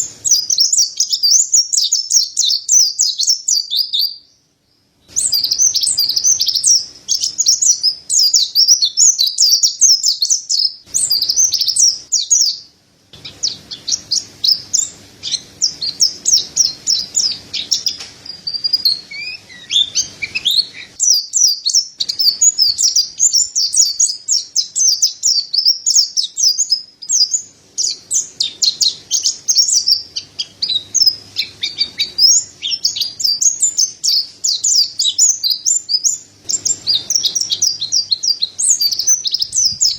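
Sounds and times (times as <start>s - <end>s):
bird twittering chirps and trills: 0.0s - 39.9s.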